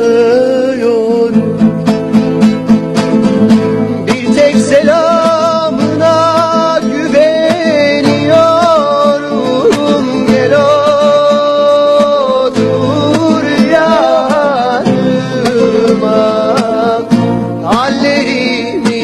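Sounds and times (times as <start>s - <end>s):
plucked string instrument strumming: 0.0s - 19.0s.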